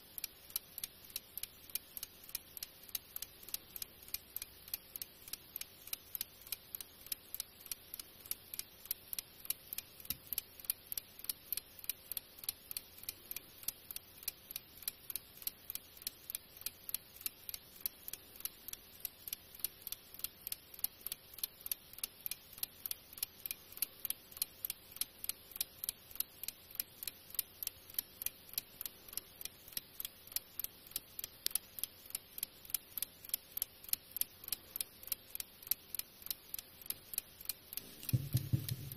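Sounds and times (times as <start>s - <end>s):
alarm clock ticking: 0.0s - 38.9s.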